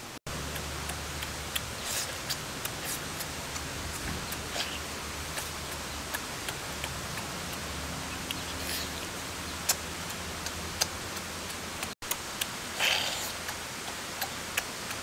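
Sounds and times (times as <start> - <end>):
steady hiss: 0.0 - 15.0
chewing and lip-smacking: 0.3 - 15.0.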